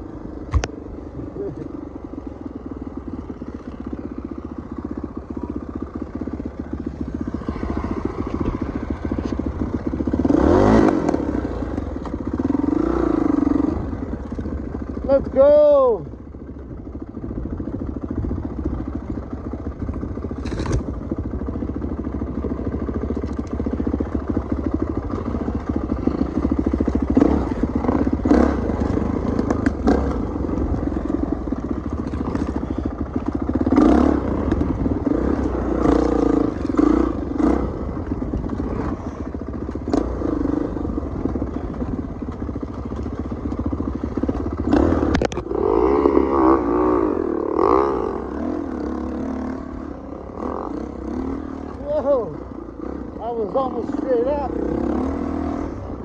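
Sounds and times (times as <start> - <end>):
dirt bike engine revving: 0.0 - 16.0, 18.1 - 56.0.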